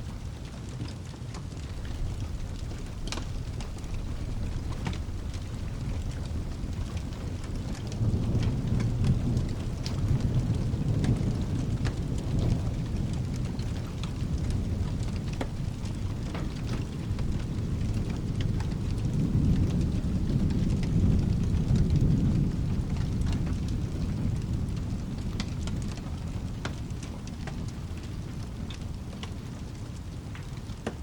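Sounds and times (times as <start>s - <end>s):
steady rain: 0.0s - 31.0s
rolling thunder: 1.5s - 31.0s.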